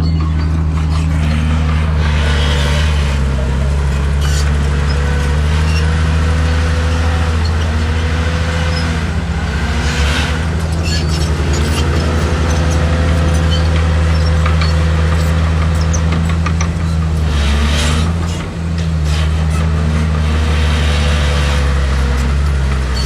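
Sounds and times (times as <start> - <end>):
heavy diesel engine with whine: 0.0 - 23.0.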